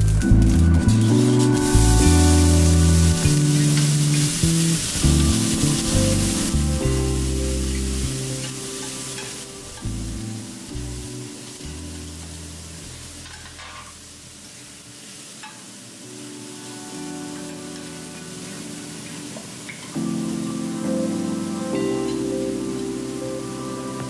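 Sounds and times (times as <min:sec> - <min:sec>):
food sizzling in a skillet: 0:00.0 - 0:21.2.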